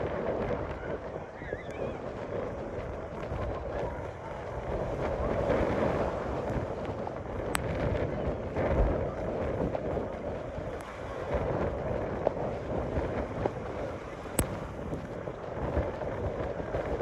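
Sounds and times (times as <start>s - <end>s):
surf breaking over seawall: 0.0s - 17.0s
wind buffeting microphone: 0.0s - 17.0s.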